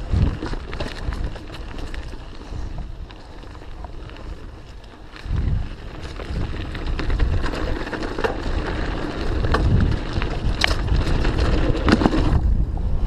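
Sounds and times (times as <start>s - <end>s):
bike rattling and clicking: 0.0s - 13.0s
bike tyre rumble on dirt: 0.0s - 13.0s
wind buffeting microphone: 0.0s - 13.0s.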